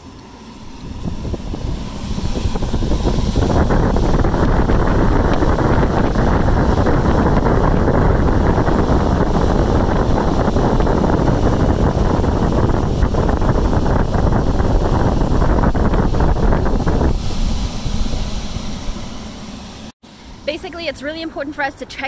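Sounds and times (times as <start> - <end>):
rush of blowing air: 0.0 - 20.5.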